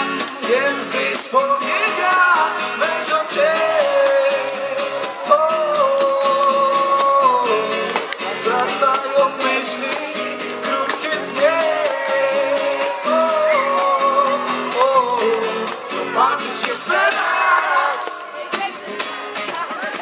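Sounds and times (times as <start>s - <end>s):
person singing lead vocal: 0.0s - 19.0s
acoustic guitar: 0.0s - 20.0s.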